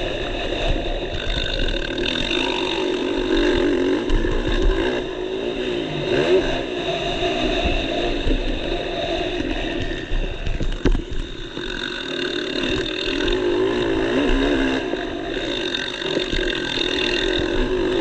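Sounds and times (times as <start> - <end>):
motorbike engine revving: 0.0 - 18.0.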